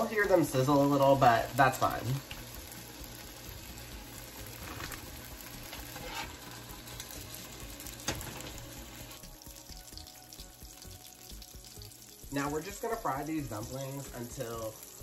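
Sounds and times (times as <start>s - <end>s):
dumplings sizzling in frying pan: 0.0s - 15.0s.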